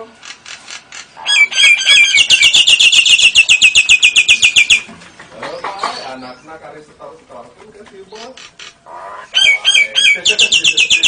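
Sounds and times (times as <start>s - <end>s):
songbird trilling: 0.2s - 6.6s, 8.0s - 11.0s.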